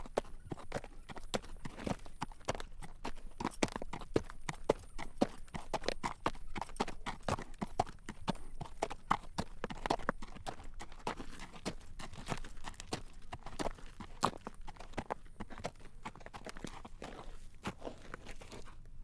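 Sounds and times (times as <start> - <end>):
horse hooves clip-clopping on road: 0.0 - 18.8.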